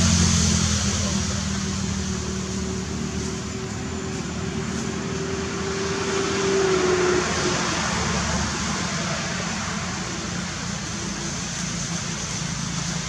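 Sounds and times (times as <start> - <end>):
motor drone: 0.0 - 13.0.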